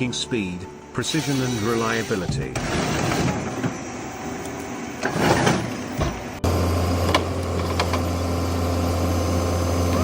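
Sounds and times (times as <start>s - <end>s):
mechanical noise: 1.0s - 10.0s
heavy machinery engine: 1.2s - 10.0s.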